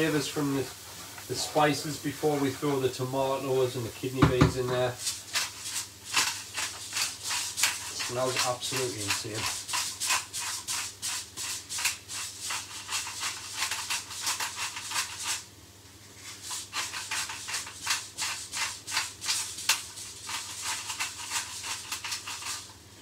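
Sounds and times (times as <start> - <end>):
pepper mill grinding: 3.4 - 15.5, 16.2 - 22.8.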